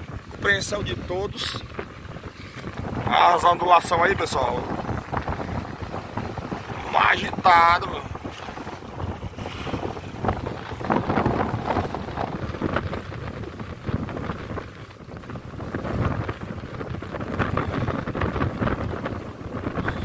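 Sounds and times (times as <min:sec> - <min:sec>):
choppy sea washing around boat: 0:00.0 - 0:20.0
wind buffeting microphone: 0:00.0 - 0:20.0.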